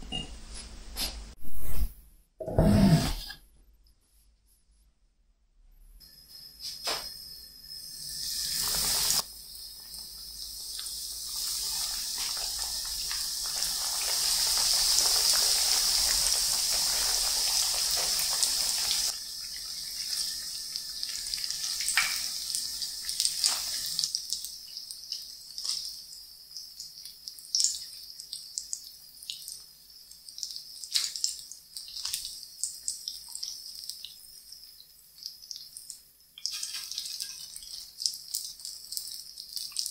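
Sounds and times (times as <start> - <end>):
food deep-frying in oil: 6.9 - 39.9.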